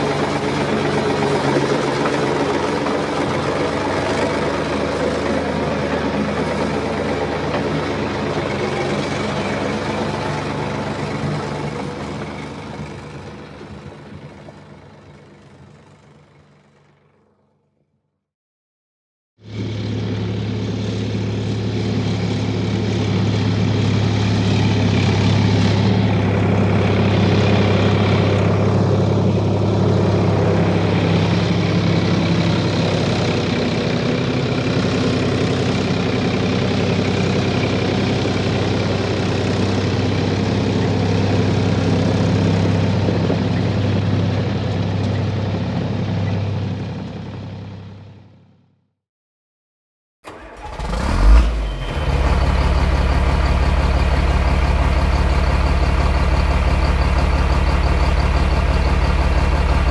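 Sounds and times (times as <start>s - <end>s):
combine harvester engine drone: 0.0s - 17.5s, 19.4s - 48.6s, 50.3s - 59.9s.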